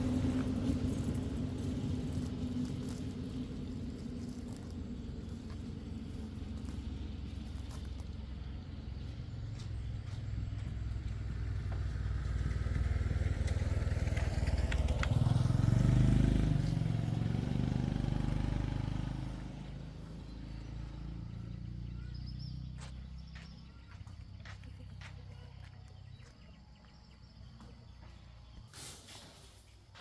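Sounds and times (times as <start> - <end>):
motorcycle passing by: 0.0 - 28.7.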